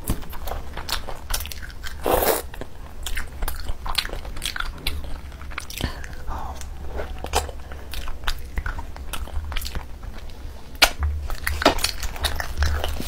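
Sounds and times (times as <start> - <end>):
steady low hum: 0.0 - 13.0
wet chewing and mouth smacks: 0.1 - 13.0.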